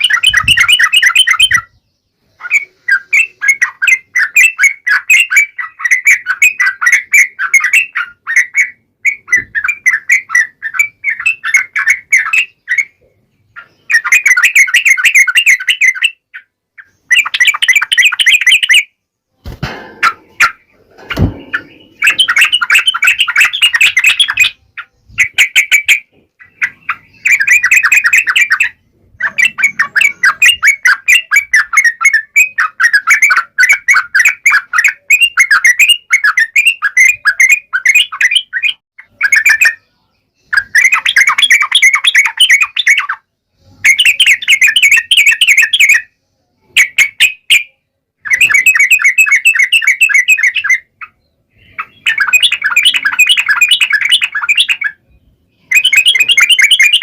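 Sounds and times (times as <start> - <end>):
bird singing fast chattering song: 0.0 - 57.0.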